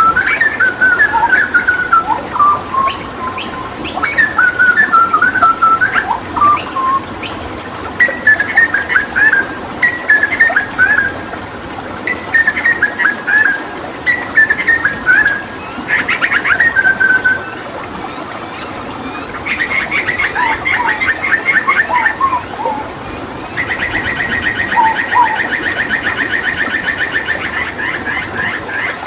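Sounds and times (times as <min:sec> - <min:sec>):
bird singing whistled trills: 0:00.0 - 0:11.3, 0:12.0 - 0:22.9, 0:23.5 - 0:29.0
running water hiss: 0:00.0 - 0:29.0.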